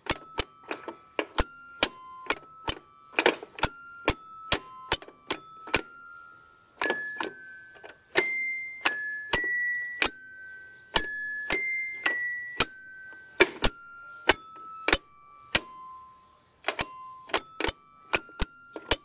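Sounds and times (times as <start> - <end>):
toy piano chiming notes: 0.0 - 19.0.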